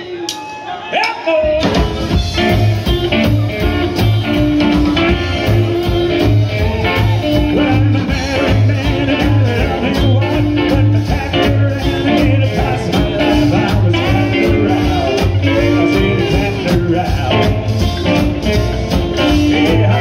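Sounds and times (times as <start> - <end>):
rockabilly band playing: 0.0 - 20.0
upright bass rhythm: 1.5 - 20.0.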